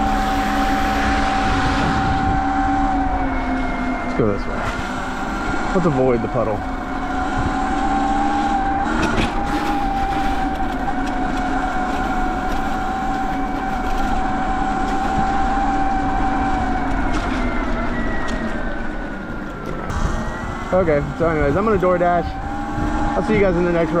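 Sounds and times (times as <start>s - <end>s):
electric motor whine: 0.0s - 24.0s
wind and tyres on wet road: 0.0s - 24.0s.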